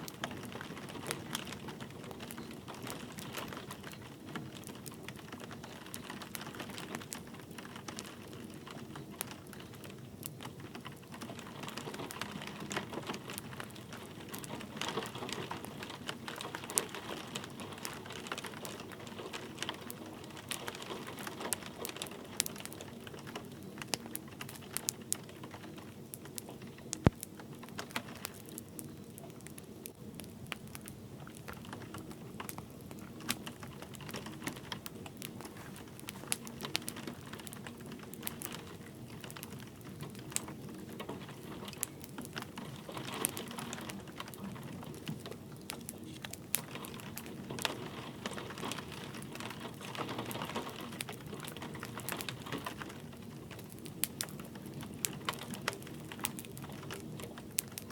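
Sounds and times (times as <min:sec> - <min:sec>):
light rain hiss: 0:00.0 - 0:57.9
wood fire crackling and popping: 0:00.0 - 0:57.9.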